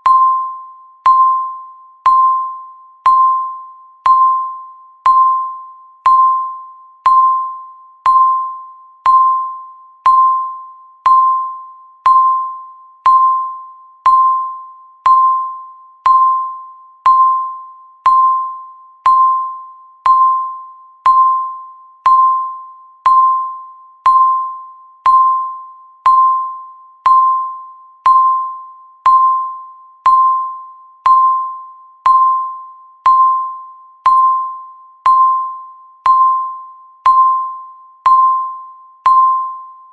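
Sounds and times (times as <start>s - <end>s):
electronic timer ping: 0.0s - 39.9s.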